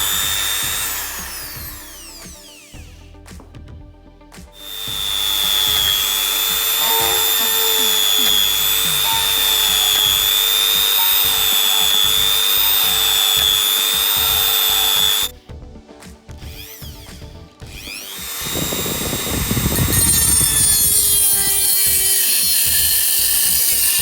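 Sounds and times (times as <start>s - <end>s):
die grinder whining: 0.0s - 3.0s, 4.6s - 15.4s, 16.4s - 24.0s.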